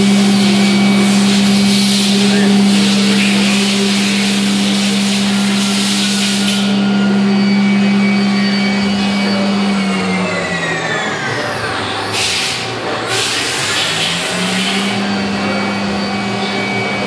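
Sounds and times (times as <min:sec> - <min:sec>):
machine spindle steady tone: 0:00.0 - 0:17.0.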